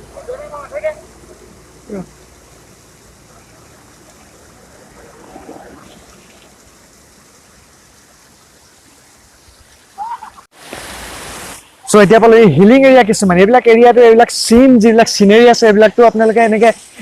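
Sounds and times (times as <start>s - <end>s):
rushing stream water: 0.0s - 17.0s.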